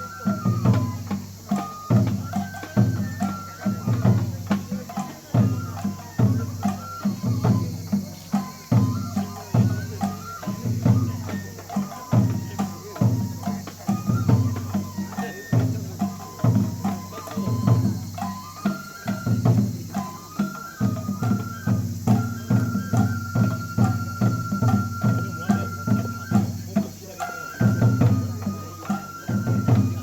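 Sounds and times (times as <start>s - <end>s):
drums beating a steady rhythm: 0.0s - 30.0s.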